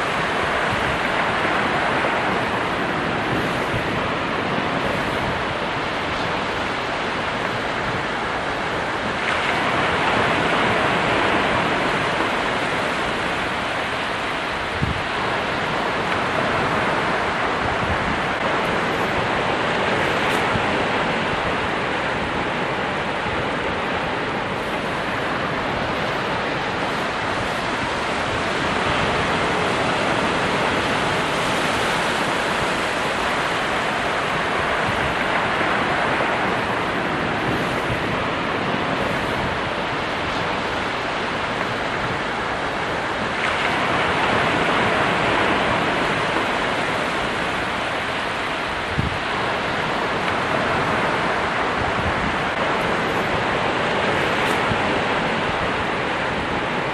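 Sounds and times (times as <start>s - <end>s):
ocean surf washing: 0.0s - 56.9s.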